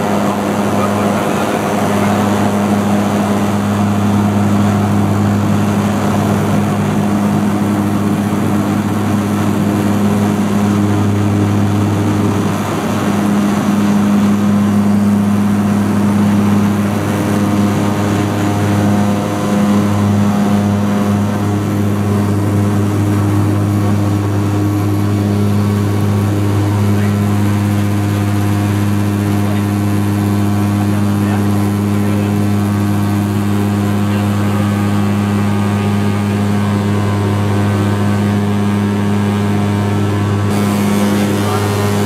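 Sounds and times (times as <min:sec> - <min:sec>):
turboprop engine drone: 0:00.0 - 0:42.0.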